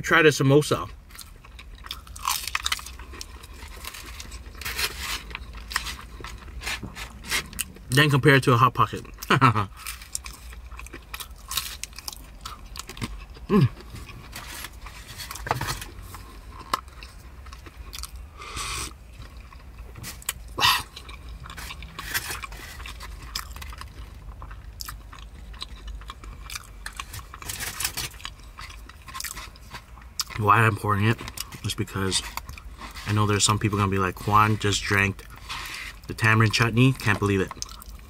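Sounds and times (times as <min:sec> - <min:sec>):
person chewing crisp pastry: 0:00.8 - 0:08.1, 0:08.7 - 0:38.0.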